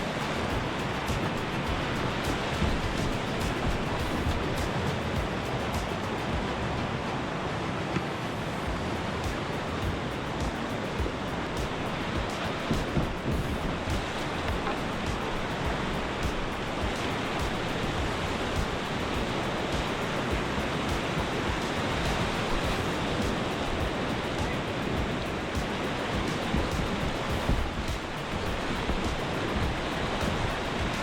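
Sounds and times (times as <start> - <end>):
whitewater rushing: 0.0 - 31.0.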